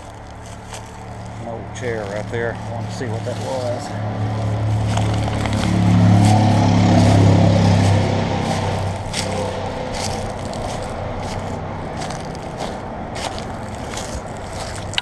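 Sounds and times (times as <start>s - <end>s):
crunching footsteps: 0.0s - 15.0s
vehicle engine hum passing: 0.0s - 15.0s.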